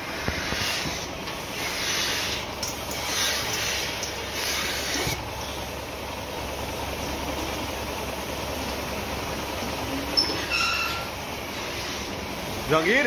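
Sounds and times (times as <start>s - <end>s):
milking machine noise: 0.0s - 13.0s.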